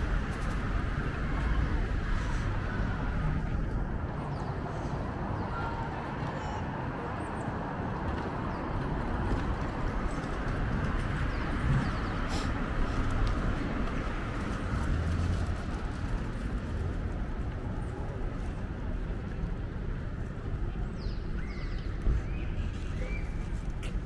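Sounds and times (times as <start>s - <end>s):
passing vehicles rumble: 0.0s - 24.0s.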